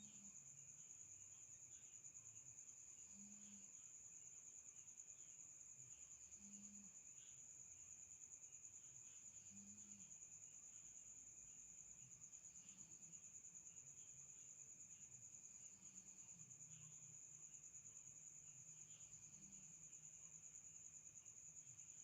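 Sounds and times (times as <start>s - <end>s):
cricket trill: 0.0s - 22.0s.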